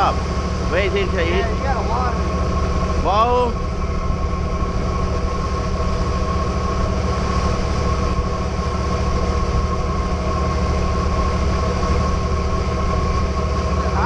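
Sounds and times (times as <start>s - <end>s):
boat engine droning: 0.0s - 14.0s
high engine whine: 0.0s - 14.0s.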